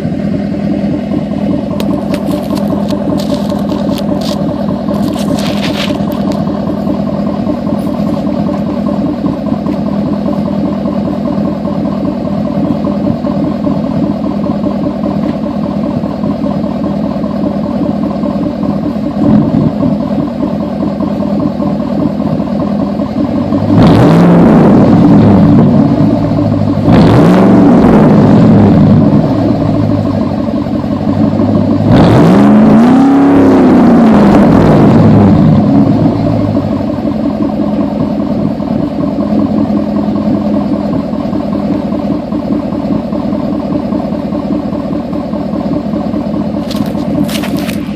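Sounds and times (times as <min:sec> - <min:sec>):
truck engine idling and revving: 0:00.0 - 0:47.9.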